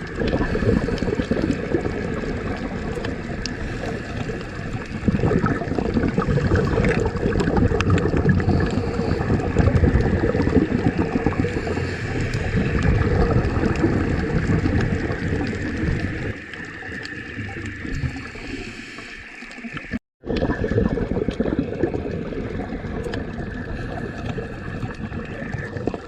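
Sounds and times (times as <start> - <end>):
water rushing and gurgling: 0.0 - 26.0.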